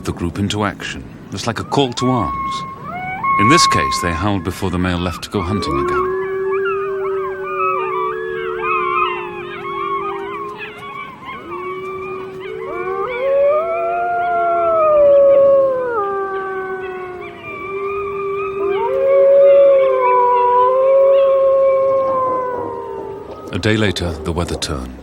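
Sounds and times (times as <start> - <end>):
wolves howling in chorus: 1.4 - 24.9.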